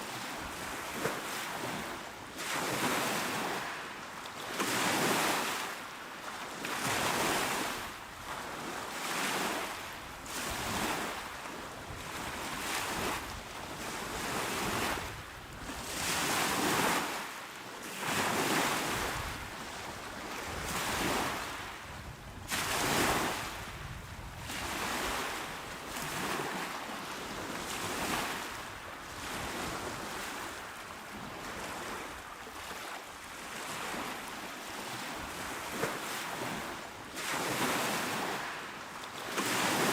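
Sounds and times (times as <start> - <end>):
small waves breaking on shore: 0.0 - 39.9.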